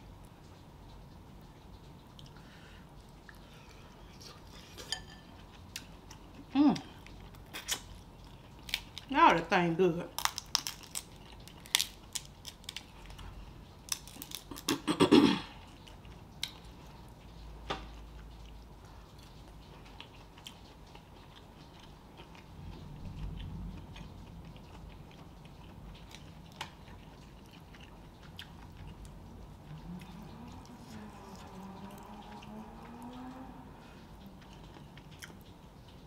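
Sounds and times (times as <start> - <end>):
chewing with wet smacks: 0.2 - 9.1, 15.6 - 36.0.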